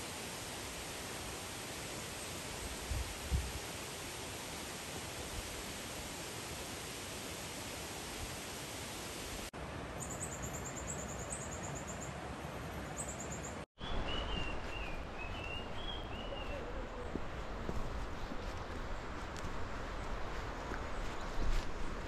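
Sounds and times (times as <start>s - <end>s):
outdoor ambience hiss: 0.0s - 22.0s.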